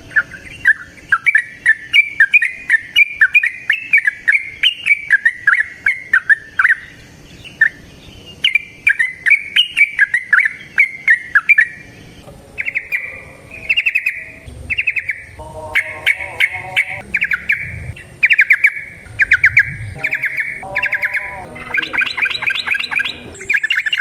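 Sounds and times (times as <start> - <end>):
bird singing bubbling song: 0.0 - 24.0.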